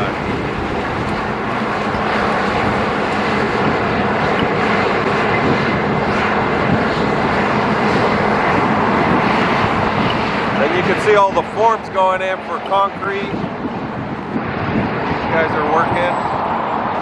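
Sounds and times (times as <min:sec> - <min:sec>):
loud rushing roar: 0:00.0 - 0:17.0.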